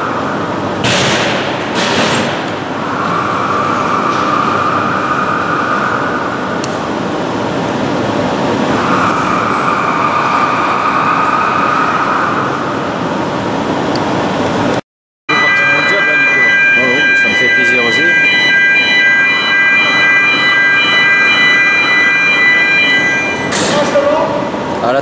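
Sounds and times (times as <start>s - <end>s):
high machine whine: 0.0s - 25.0s
machinery rumble: 0.0s - 25.0s.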